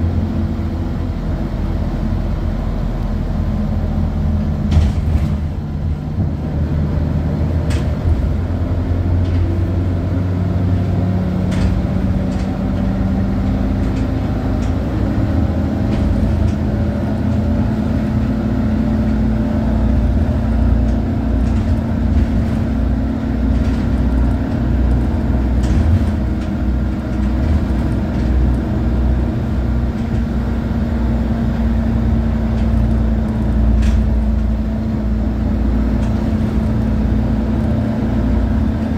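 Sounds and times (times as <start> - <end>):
bus engine hum: 0.0 - 38.9
road noise: 0.0 - 38.9.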